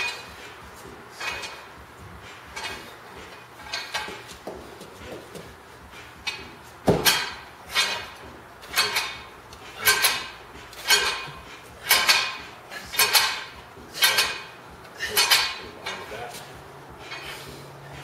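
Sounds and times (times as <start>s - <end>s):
weight plates clanking: 0.0s - 18.0s.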